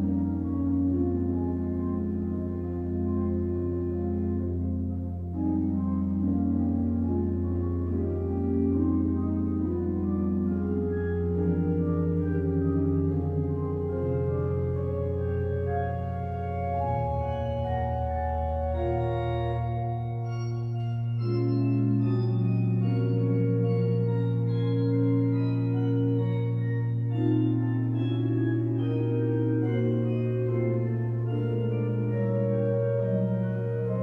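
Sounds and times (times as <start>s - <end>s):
pipe organ playing softly: 0.0s - 34.0s.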